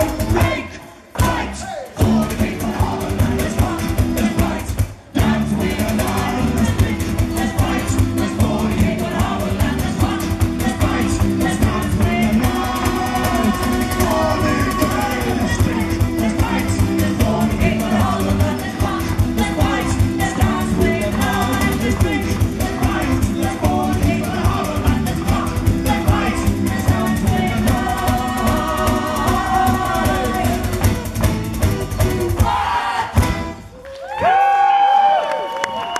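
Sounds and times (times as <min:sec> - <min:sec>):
person singing: 0:00.0 - 0:31.0
live folk band: 0:00.0 - 0:35.9.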